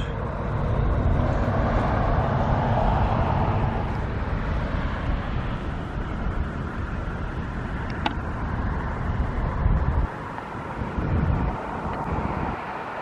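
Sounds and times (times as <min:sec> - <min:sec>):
low traffic rumble: 0:00.0 - 0:13.0
vehicle passing: 0:00.0 - 0:13.0.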